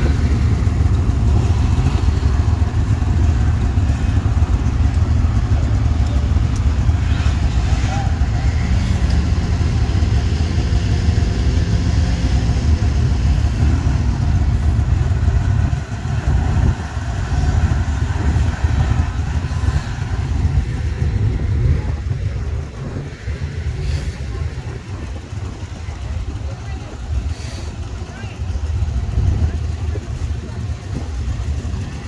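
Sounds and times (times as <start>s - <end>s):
snowmobile engines rumbling: 0.0s - 32.0s.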